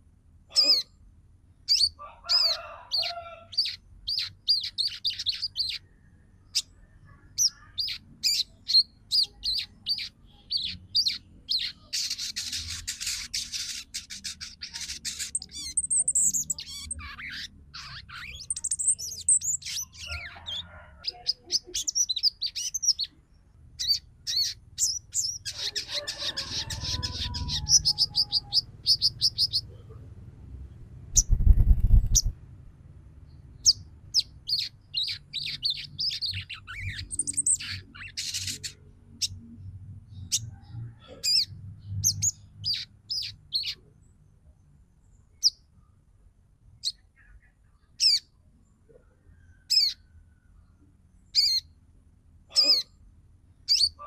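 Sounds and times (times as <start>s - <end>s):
bird chirping: 0.5s - 32.4s, 33.2s - 45.9s, 46.8s - 51.8s, 52.6s - 54.0s.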